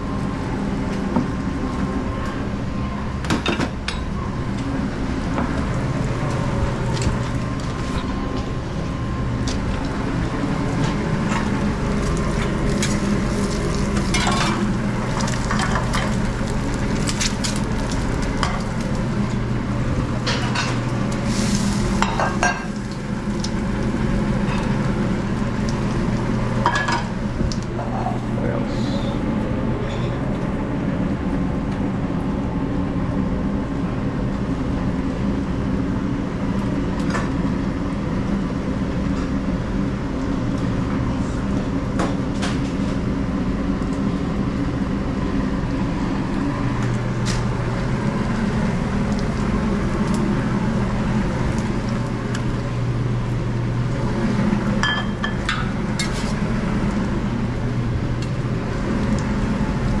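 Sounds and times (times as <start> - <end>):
deeper hum: 0.0 - 60.0
kitchen equipment humming: 0.0 - 60.0.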